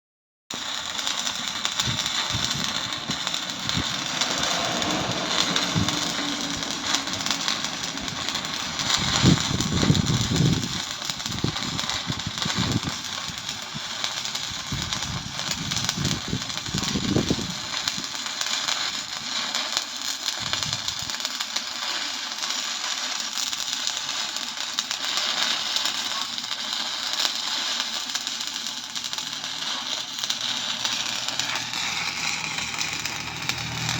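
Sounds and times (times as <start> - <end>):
welding arc crackling and sizzling: 0.5 - 33.9.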